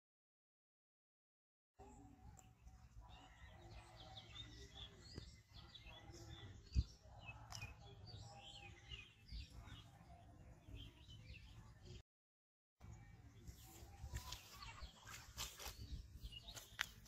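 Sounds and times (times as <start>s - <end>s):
small birds chirping: 1.8s - 12.0s, 12.8s - 17.0s.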